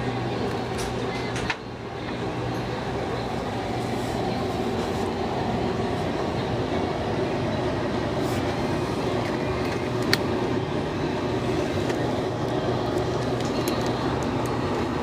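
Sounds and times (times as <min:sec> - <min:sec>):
low rumbling store ambience: 0:00.0 - 0:15.0.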